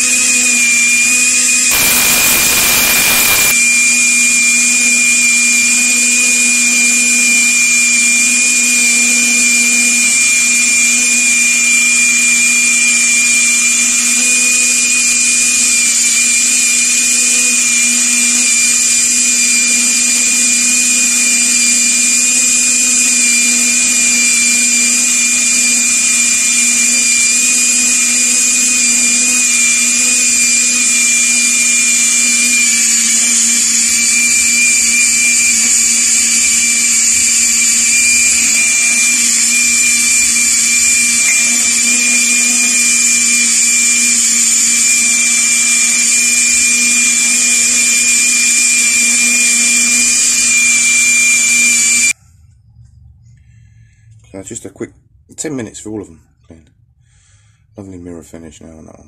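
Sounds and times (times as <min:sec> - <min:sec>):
cordless drill motor whine: 0:00.0 - 0:52.2.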